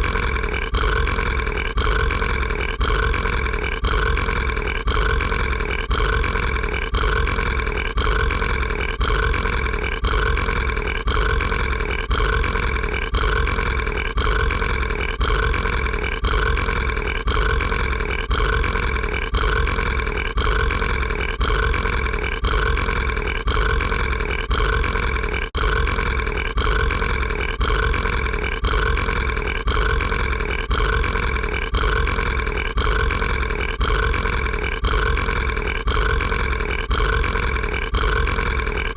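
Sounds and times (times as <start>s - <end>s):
cartoon character burping: 0.0s - 38.9s.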